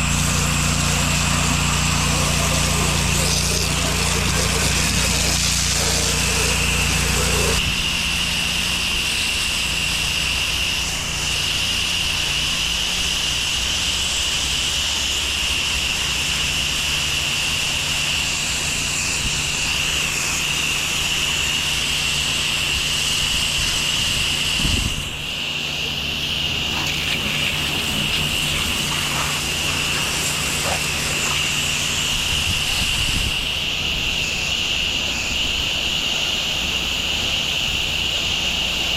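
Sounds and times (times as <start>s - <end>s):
high-pressure water spray hissing: 0.0s - 38.9s
pressure washer engine humming: 0.0s - 38.9s.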